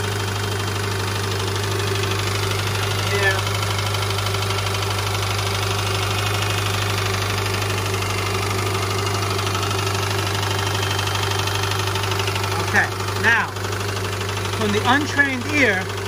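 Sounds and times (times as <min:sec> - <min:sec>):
engine idling with metallic knocking: 0:00.0 - 0:16.0.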